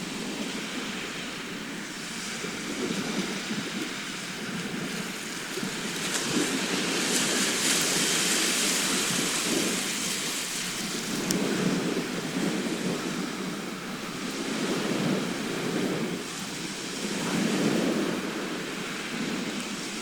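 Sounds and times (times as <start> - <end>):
surf washing onto shore: 0.0 - 20.0.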